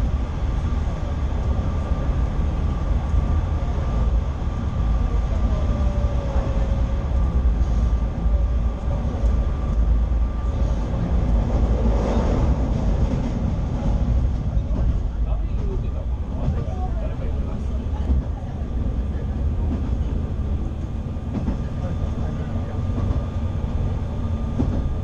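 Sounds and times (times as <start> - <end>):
train rumbling in tunnel: 0.0 - 25.0.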